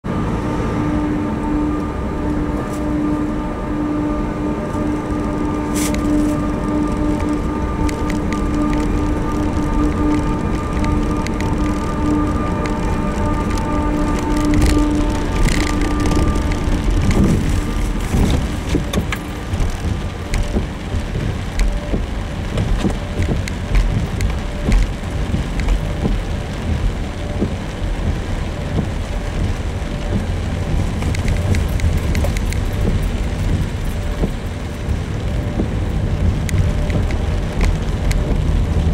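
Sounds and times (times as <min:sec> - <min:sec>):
car driving on wet pavement: 0:00.0 - 0:38.9
rain pattering on car roof: 0:00.4 - 0:38.9.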